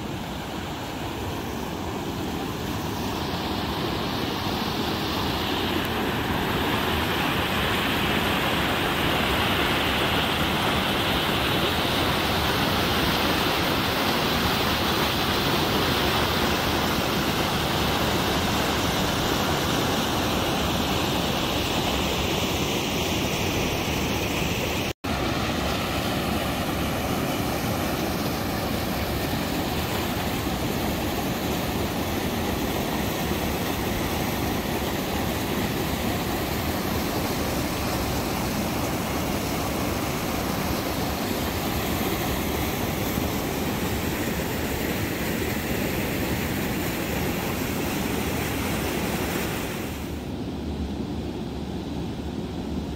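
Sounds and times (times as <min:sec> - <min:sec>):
river rushing over weir: 0:00.0 - 0:52.9.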